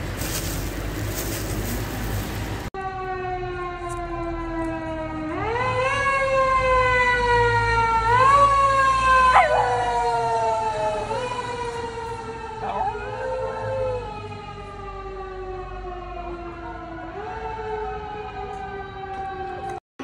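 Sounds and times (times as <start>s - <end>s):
street traffic noise: 0.0s - 19.8s
emergency vehicle siren wailing: 2.8s - 19.8s.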